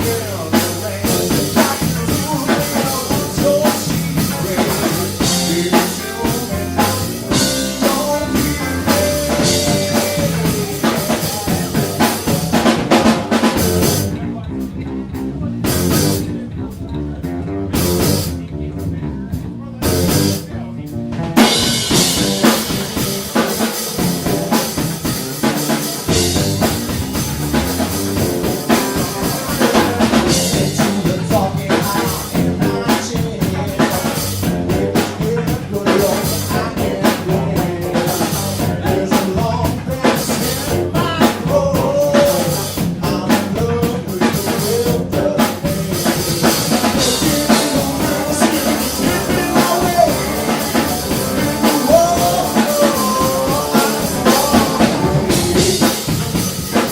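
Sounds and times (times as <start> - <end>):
person singing: 0.0 - 14.3, 21.4 - 56.9
drum kit beat: 0.0 - 56.9
live band playing: 0.0 - 56.9.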